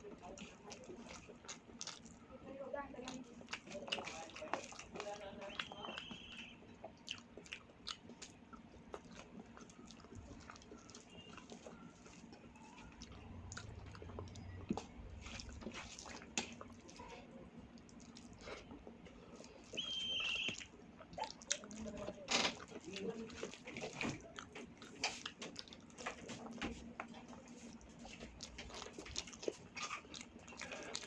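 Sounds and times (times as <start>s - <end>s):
chewing food: 0.0s - 31.0s.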